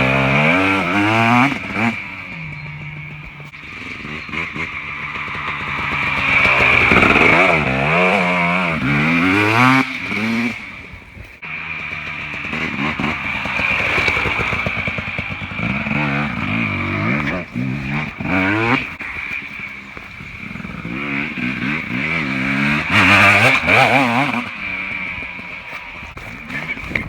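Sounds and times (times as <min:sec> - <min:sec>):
two-stroke dirt bike revving: 0:00.0 - 0:27.0.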